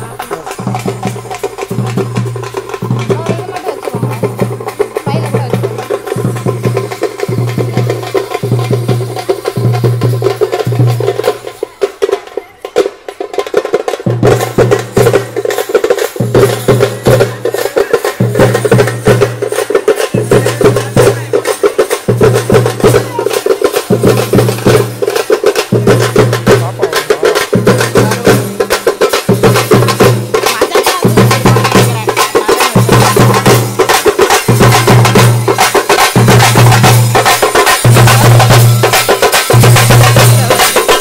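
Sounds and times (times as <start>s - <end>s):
drum troupe playing fast rhythm: 0.0s - 41.0s.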